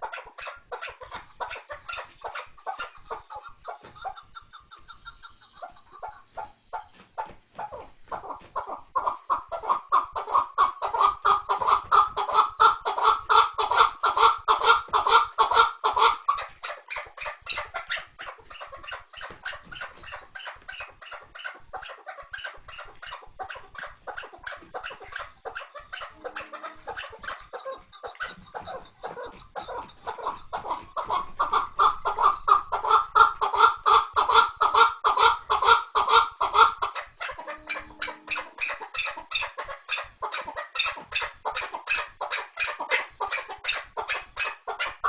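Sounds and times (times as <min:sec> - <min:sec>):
partridge calling: 0:00.0 - 0:45.0.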